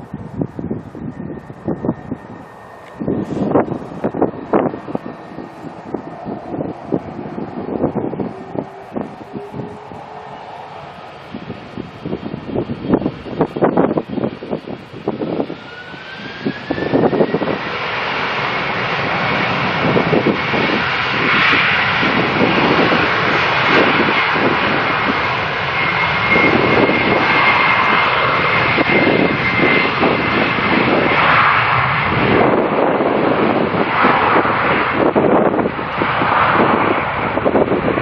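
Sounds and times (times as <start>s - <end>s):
jet engine whine: 0.0s - 38.0s
jet engines rushing: 0.0s - 38.0s
wind buffeting microphone: 0.0s - 38.0s.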